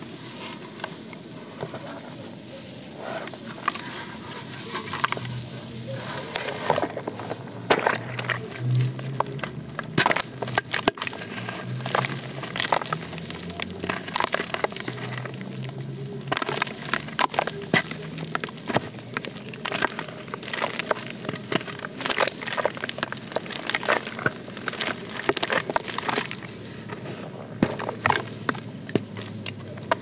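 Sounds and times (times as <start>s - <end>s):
wet dirt crunching and crackling: 0.0s - 30.0s.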